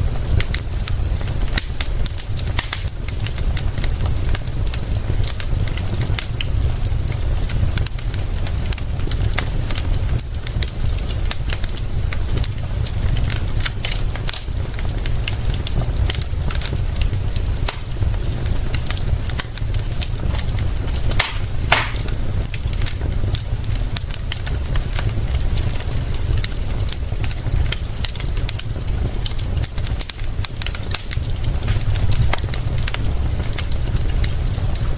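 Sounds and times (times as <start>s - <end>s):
rain rumbling: 0.0s - 34.9s
wood fire crackling: 0.0s - 34.9s.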